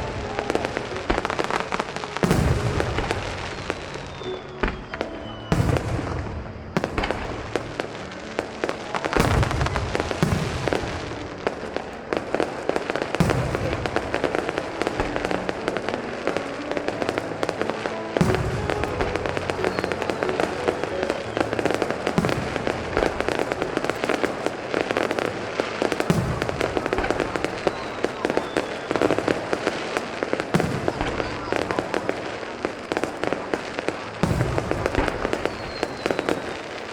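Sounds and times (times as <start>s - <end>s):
firework shells booming: 0.0s - 36.9s
fireworks crackling: 0.0s - 36.9s
music playing: 0.0s - 36.9s.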